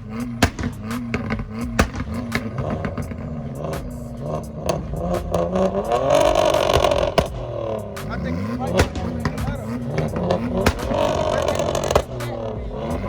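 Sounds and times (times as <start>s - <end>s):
car engine revving: 0.0s - 13.0s
exhaust pops and cracks: 0.0s - 13.0s.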